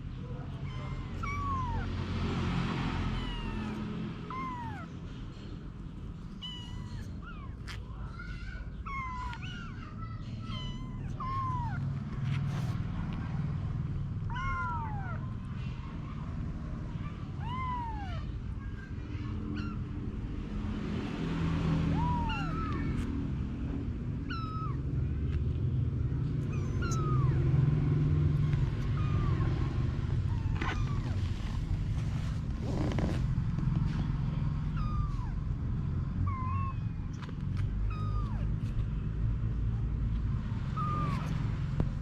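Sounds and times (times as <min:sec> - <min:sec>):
kittens mewing: 0:00.0 - 0:20.3, 0:21.7 - 0:23.2, 0:24.2 - 0:25.4, 0:26.0 - 0:42.0.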